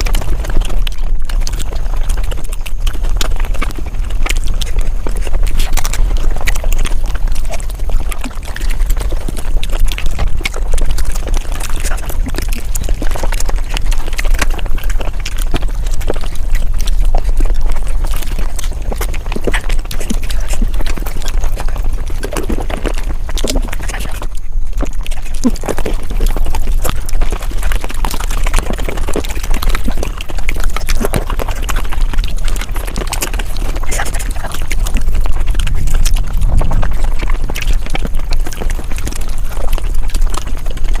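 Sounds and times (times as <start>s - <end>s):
sped-up chewing and mouth sounds: 0.0s - 41.0s.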